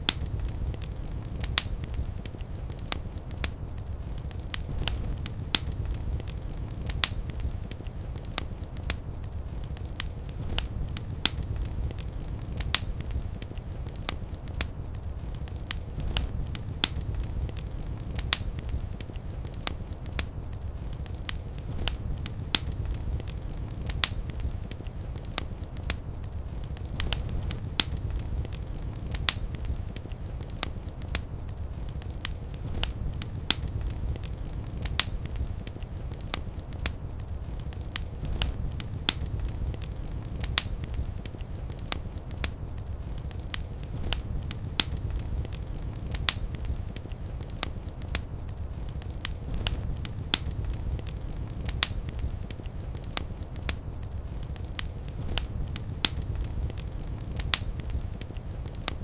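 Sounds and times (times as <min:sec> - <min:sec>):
fire crackling and popping: 0:00.0 - 0:59.0
low fire rumble: 0:00.0 - 0:59.0.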